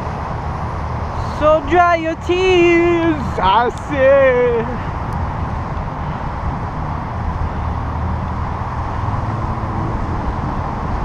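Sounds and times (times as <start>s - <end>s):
bicycle road noise on concrete: 0.0s - 11.0s
wind noise: 0.0s - 11.0s.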